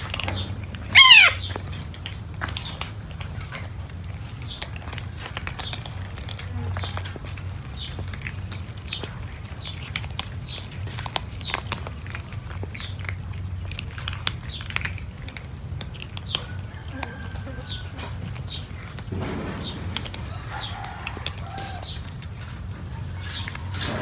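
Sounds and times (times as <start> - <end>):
cats crunching dry kibble: 0.0 - 24.0.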